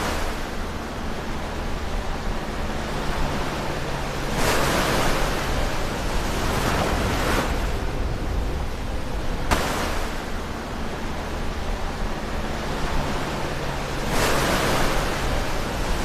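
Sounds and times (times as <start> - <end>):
low surf rumble: 0.0 - 16.0
ocean waves crashing: 0.0 - 16.0.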